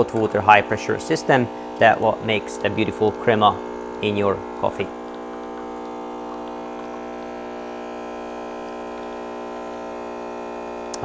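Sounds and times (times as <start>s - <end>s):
espresso machine pump humming: 0.0s - 11.0s.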